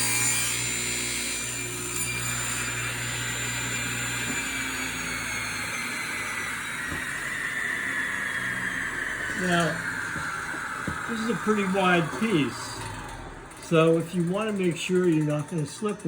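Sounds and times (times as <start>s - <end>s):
table saw coasting down: 0.0s - 16.0s.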